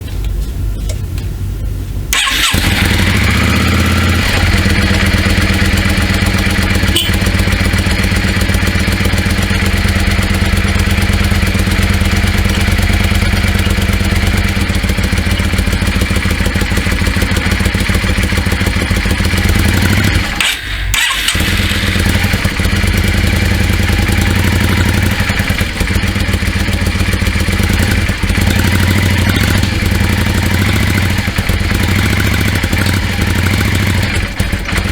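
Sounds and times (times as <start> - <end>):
motorcycle engine starting and idling: 2.1 - 34.9.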